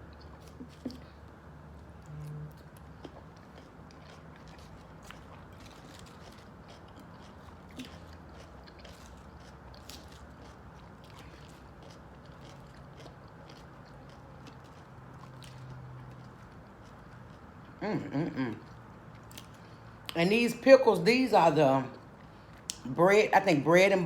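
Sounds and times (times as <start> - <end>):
chewing salad with soft crunches: 0.0 - 23.0.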